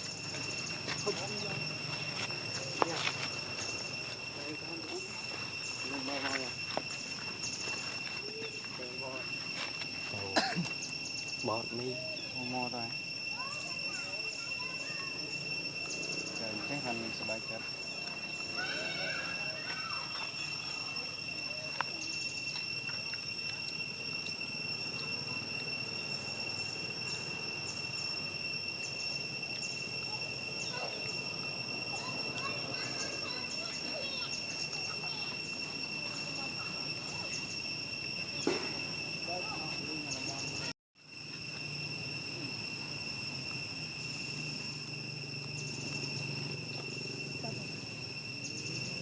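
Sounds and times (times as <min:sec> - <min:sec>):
high-pitched insect drone: 0:00.0 - 0:49.0.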